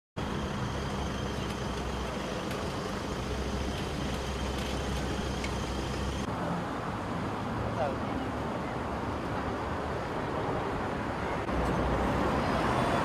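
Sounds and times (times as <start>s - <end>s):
road traffic engine hum: 0.2s - 13.0s.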